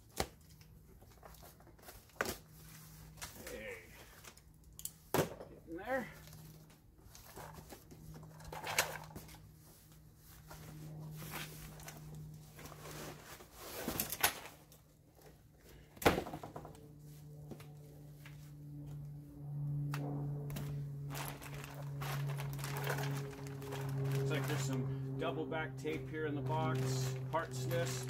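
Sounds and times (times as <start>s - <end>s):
steady low hum: 0.7s - 28.0s.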